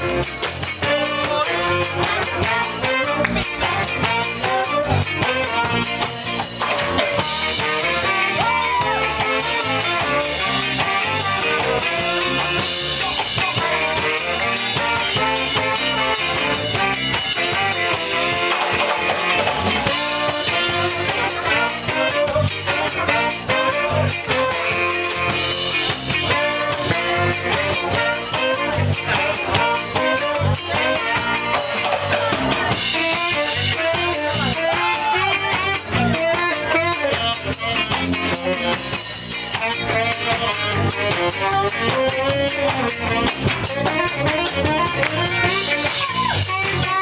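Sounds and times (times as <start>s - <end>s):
drum kit beat: 0.0s - 47.0s
saxophones and trumpets: 0.0s - 47.0s
ska band playing: 0.0s - 47.0s.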